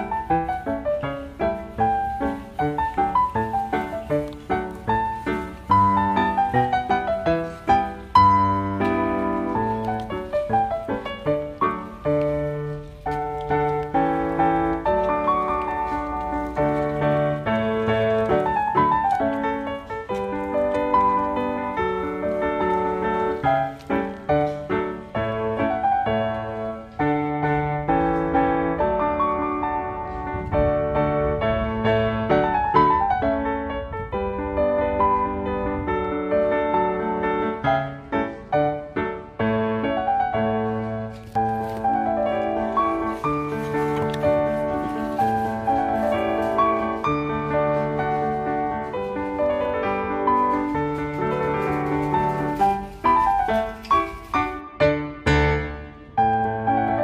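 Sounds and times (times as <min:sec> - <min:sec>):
piano melody: 0:00.0 - 0:57.0.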